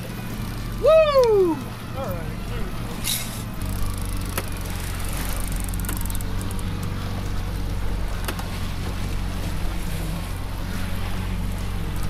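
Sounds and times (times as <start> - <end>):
outboard motor running: 0.0 - 12.0
wind and water hiss: 0.0 - 12.0.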